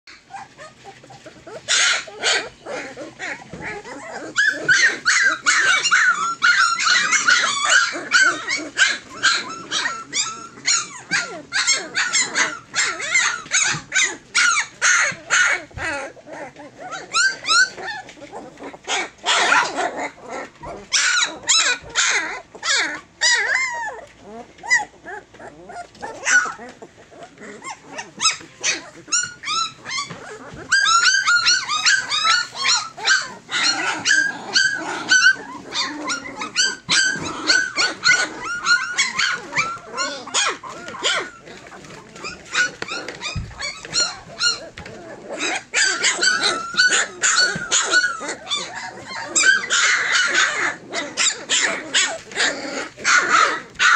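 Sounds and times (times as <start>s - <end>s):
puppies yelping and whining: 0.1s - 53.9s.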